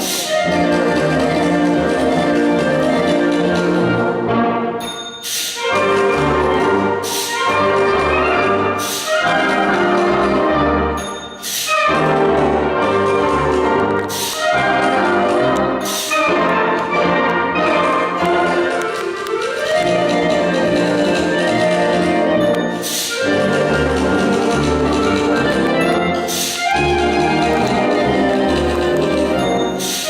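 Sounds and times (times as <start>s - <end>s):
wind band playing brass: 0.0s - 30.0s.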